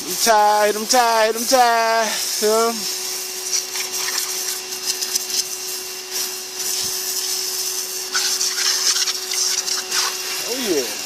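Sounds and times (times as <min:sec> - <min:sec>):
pressure washer jet spraying: 0:00.0 - 0:11.0
pressure washer machine hum: 0:00.0 - 0:11.0.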